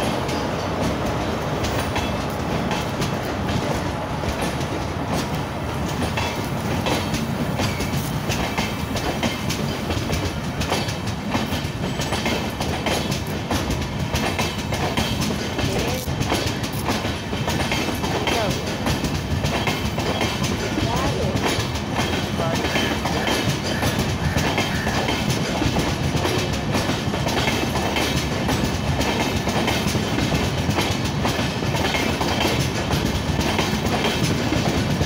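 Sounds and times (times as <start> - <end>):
train wheels rumbling: 0.0 - 35.0
wheels clicking over rail joints: 0.0 - 35.0.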